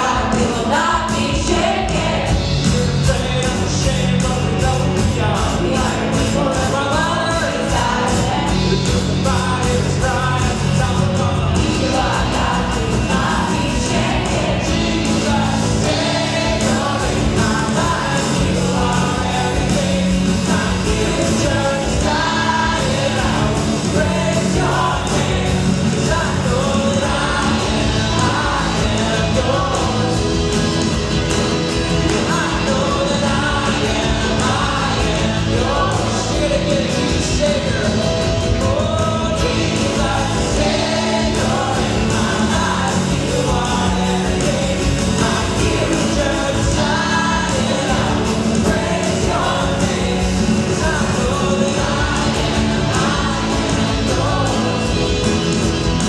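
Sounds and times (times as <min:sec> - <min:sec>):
people singing: 0:00.0 - 0:56.0
rock worship band playing: 0:00.0 - 0:56.0.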